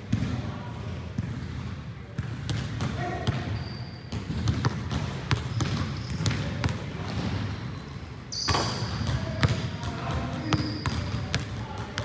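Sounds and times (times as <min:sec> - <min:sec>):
basketballs bouncing on floor: 0:00.1 - 0:00.4, 0:01.2 - 0:12.0.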